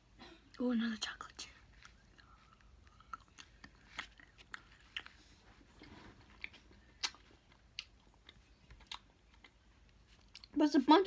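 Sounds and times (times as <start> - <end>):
mouth chewing sounds: 1.6 - 10.6.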